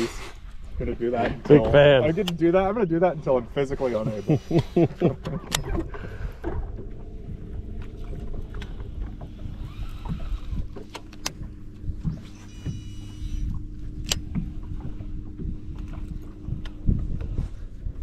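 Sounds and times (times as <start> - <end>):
water rumbling against hull: 0.0 - 18.0
electric motor hum: 3.5 - 18.0.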